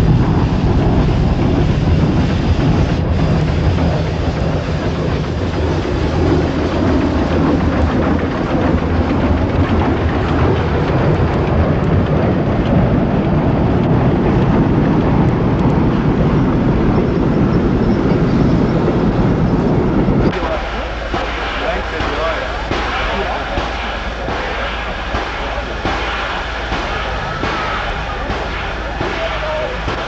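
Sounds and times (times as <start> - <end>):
steam train rumbling past: 0.0 - 30.0.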